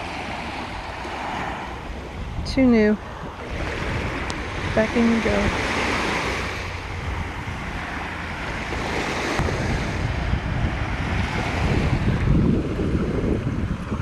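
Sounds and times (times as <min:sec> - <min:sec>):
ocean surf washing on shore: 0:00.0 - 0:14.0
wind buffeting microphone: 0:00.0 - 0:14.0.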